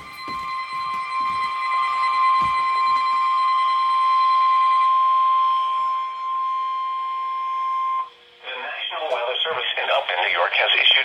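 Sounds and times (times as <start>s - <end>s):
loud steady alarm tone: 0.0s - 11.0s.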